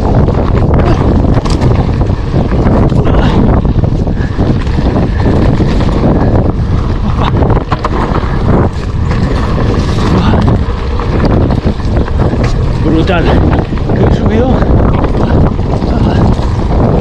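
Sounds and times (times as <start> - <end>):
bike clattering on rough trail: 0.0 - 17.0
wind buffeting microphone: 0.0 - 17.0.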